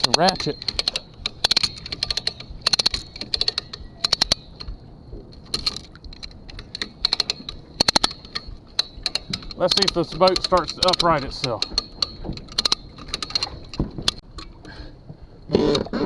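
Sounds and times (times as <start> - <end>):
hand ratchet clicking: 0.0 - 14.8.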